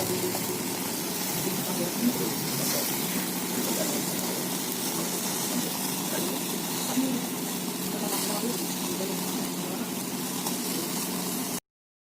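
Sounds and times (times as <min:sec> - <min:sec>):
steady hissing noise: 0:00.0 - 0:11.6.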